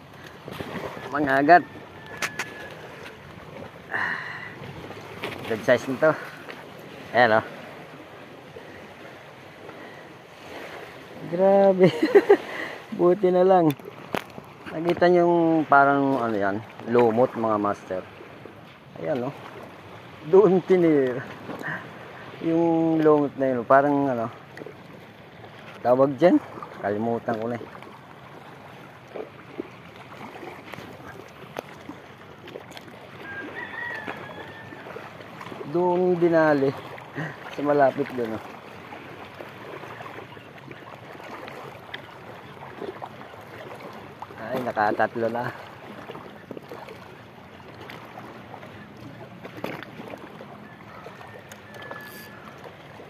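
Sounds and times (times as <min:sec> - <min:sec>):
water lapping against rocks: 0:00.0 - 0:53.0.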